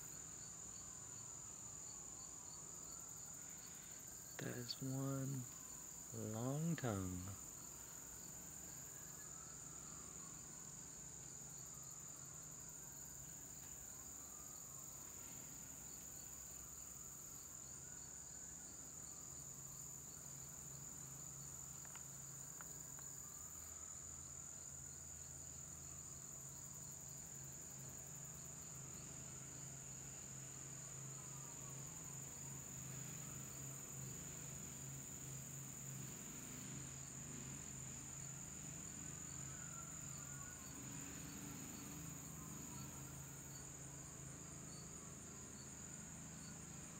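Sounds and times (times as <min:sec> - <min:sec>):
high-pitched insect trill: 0:00.0 - 0:46.9.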